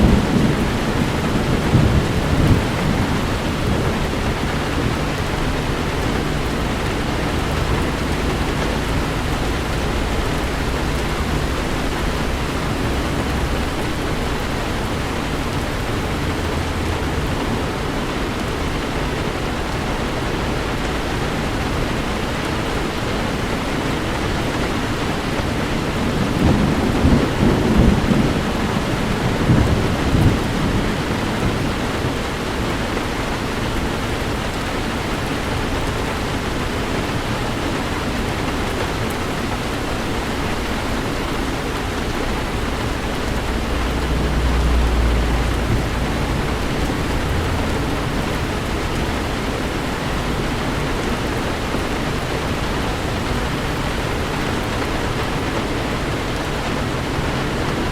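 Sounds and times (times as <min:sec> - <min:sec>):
crackling thunder: 0:00.0 - 0:19.7, 0:20.4 - 0:34.6, 0:38.9 - 0:57.9
deep thunder rumble: 0:00.0 - 0:33.7, 0:39.3 - 0:57.9
heavy rain on a car: 0:00.0 - 0:57.9.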